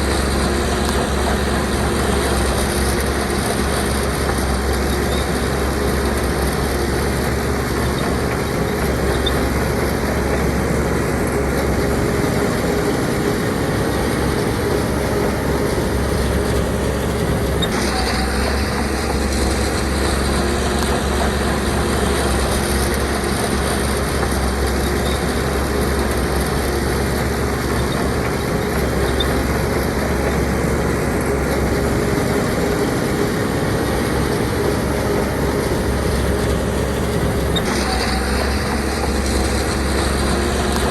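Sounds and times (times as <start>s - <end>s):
bulldozer diesel engine rumbling: 0.0s - 40.9s.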